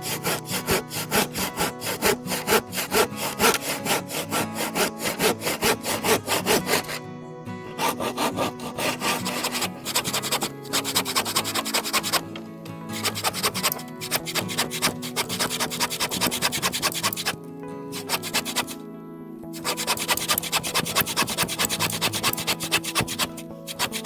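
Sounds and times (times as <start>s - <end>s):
hand saw cutting wood: 0.0s - 7.0s, 7.7s - 18.8s, 19.5s - 24.0s.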